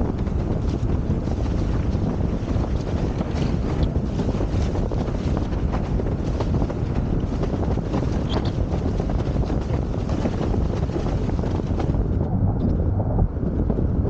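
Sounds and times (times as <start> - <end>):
board slapping water: 0.0 - 12.2
wind buffeting microphone: 0.0 - 14.0.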